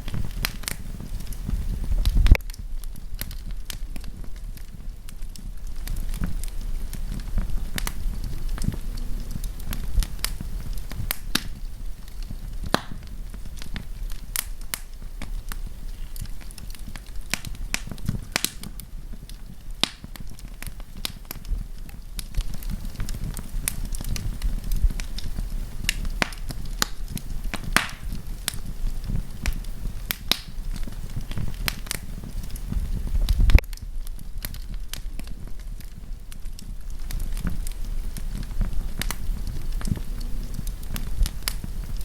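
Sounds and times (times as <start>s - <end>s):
campfire crackling and popping: 0.0s - 42.0s
low rumble: 0.0s - 42.0s.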